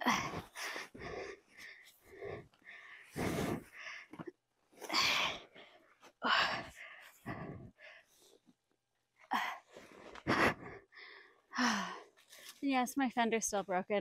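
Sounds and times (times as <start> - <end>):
woman breathing hard: 0.0 - 8.5, 9.2 - 12.4.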